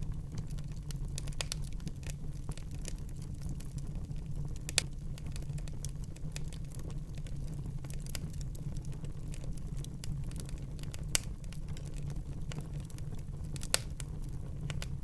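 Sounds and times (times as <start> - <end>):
wood fire crackling in a fireplace: 0.0 - 15.0.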